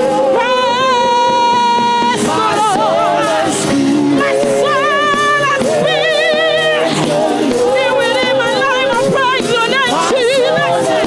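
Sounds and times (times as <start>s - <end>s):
instrumental accompaniment: 0.0s - 11.0s
person singing with vibrato: 0.0s - 11.0s.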